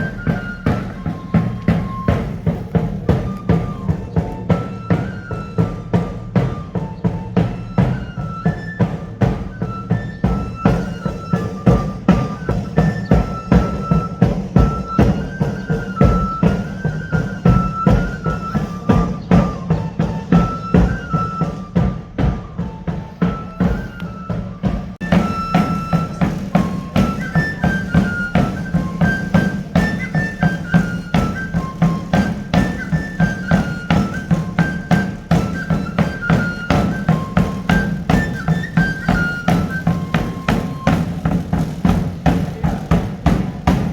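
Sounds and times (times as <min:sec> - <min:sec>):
regular drum beats: 0:00.0 - 0:43.9.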